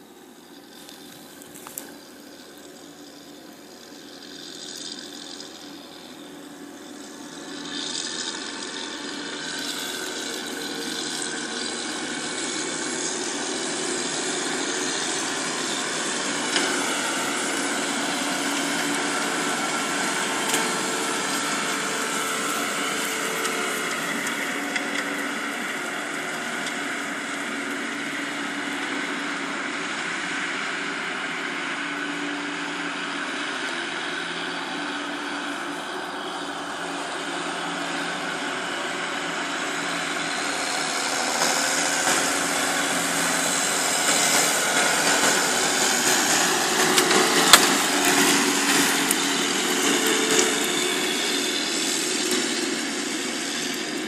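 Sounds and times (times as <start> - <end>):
fertiliser spreader engine running: 0.0 - 54.0.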